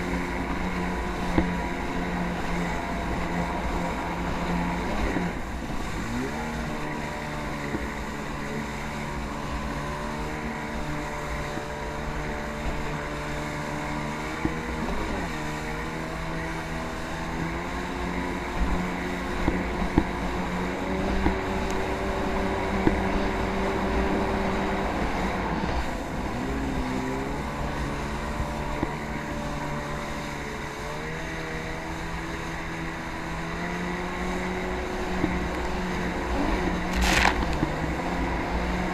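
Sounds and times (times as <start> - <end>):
jet ski engine revving: 0.0 - 38.9.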